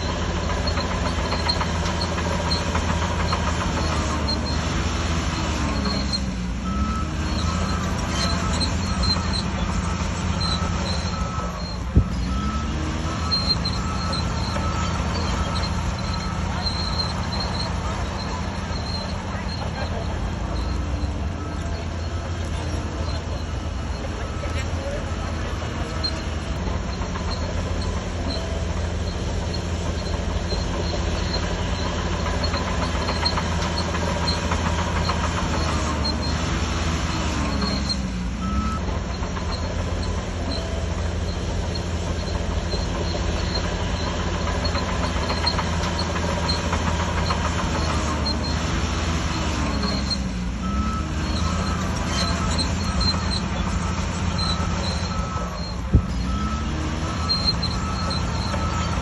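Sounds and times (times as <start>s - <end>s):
bulldozer diesel engine droning: 0.0s - 59.0s
steel tracks clattering and squealing: 0.0s - 59.0s.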